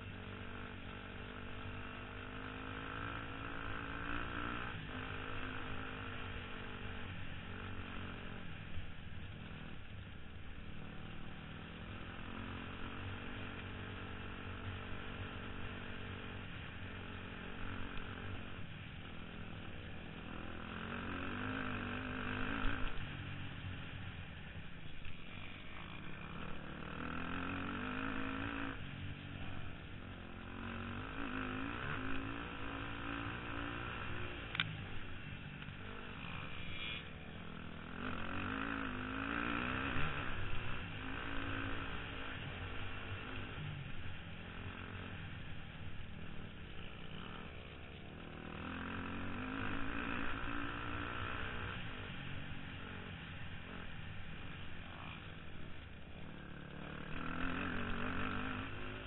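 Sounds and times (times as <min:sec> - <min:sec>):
off-road vehicle engine revving: 0:00.0 - 0:08.8, 0:10.6 - 0:59.0.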